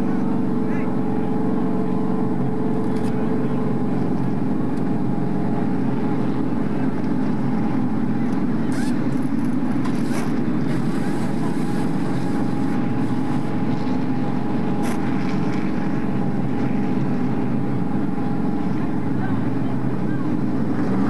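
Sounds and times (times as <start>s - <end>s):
racing car engines droning: 0.0s - 21.0s.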